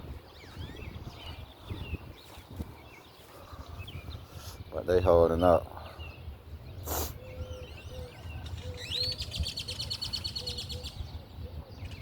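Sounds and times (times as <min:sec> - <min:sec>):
songbird singing trill: 0:00.0 - 0:12.0.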